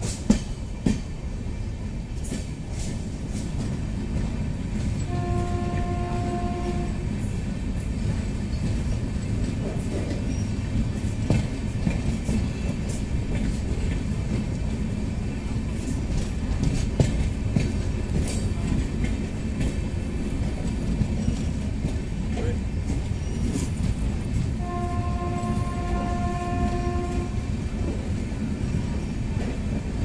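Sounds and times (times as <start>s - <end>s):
train clanks: 0.0s - 30.0s
train wheels rumbling on rails: 0.0s - 30.0s.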